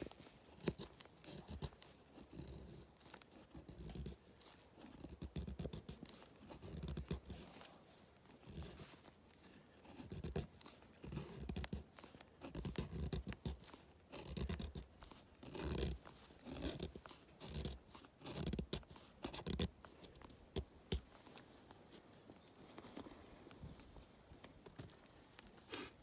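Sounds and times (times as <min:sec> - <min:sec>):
rough scraping and crunching: 0:00.0 - 0:26.0.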